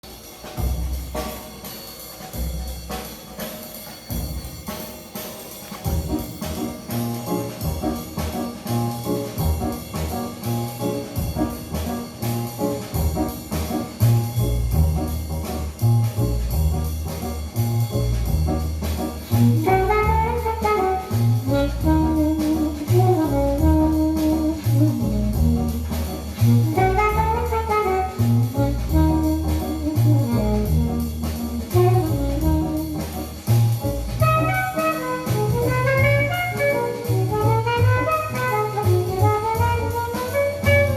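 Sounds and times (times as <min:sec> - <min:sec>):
horn melody: 0:00.0 - 0:40.9
jazz over loudspeakers: 0:00.0 - 0:40.9
bass line: 0:05.9 - 0:40.9.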